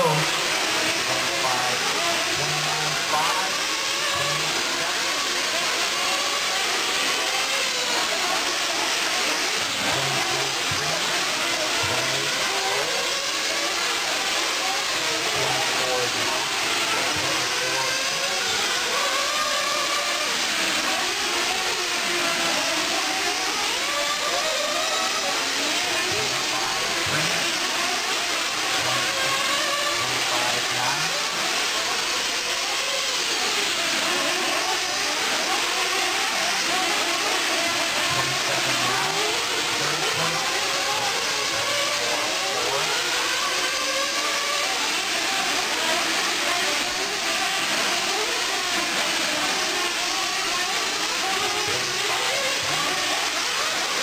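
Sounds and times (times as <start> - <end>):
small model engines buzzing and revving: 0.0 - 54.0.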